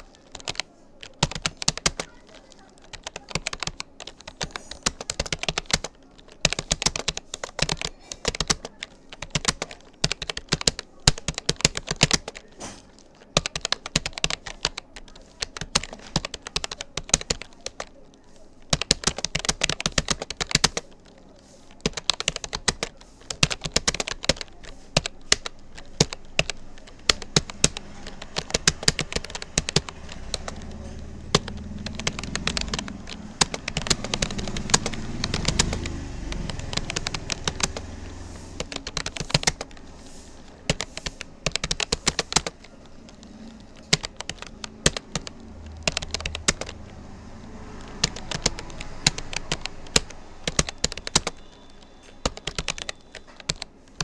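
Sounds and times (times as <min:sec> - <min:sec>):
computer keyboard typing: 0:00.0 - 0:54.0.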